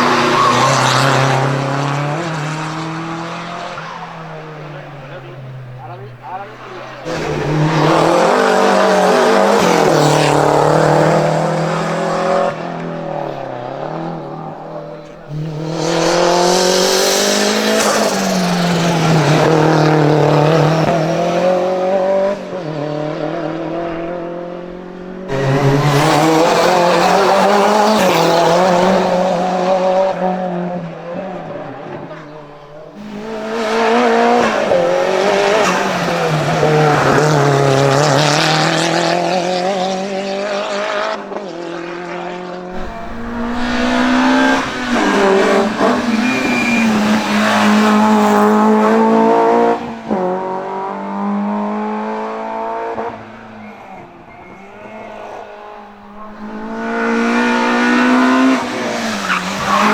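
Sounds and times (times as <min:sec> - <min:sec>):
race car engines at high revs: 0:00.0 - 0:59.9.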